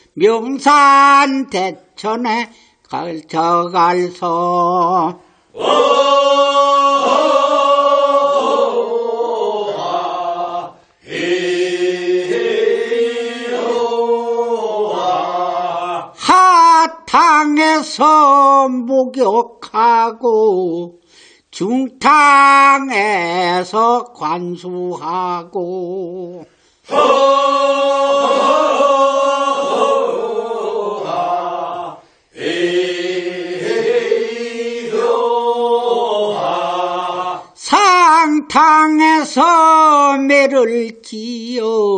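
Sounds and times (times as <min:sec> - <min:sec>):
men singing unaccompanied in unison: 0:00.2 - 0:41.9.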